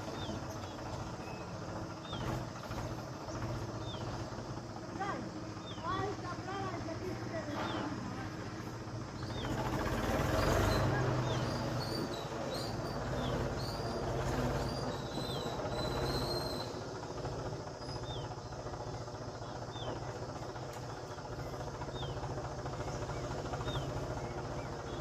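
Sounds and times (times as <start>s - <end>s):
high falling bird calls: 0.0s - 25.0s.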